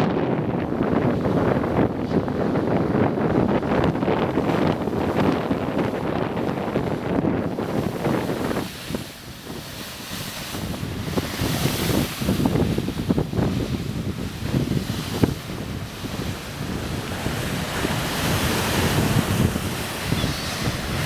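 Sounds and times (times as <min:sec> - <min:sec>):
waves breaking on a beach: 0:00.0 - 0:21.0
wind buffeting microphone: 0:00.0 - 0:21.0.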